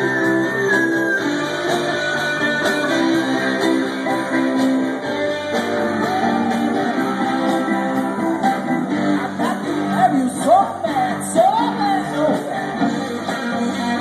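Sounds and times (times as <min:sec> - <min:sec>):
live band playing dance tune: 0:00.0 - 0:14.0.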